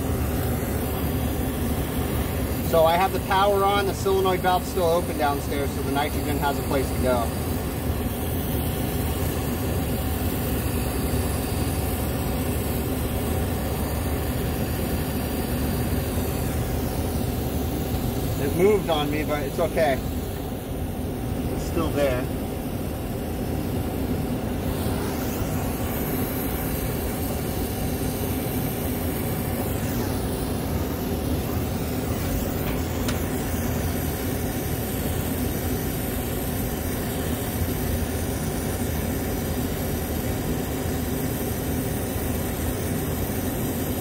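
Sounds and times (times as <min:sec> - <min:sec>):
brazing torch hissing: 0:00.0 - 0:44.0.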